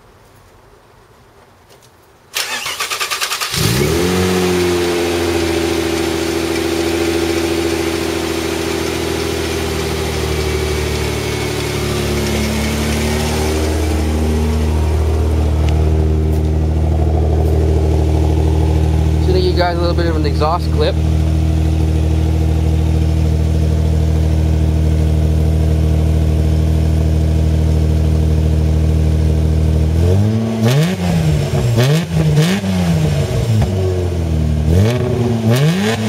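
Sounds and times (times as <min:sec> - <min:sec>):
car engine starting and idling: 0:02.3 - 0:36.0.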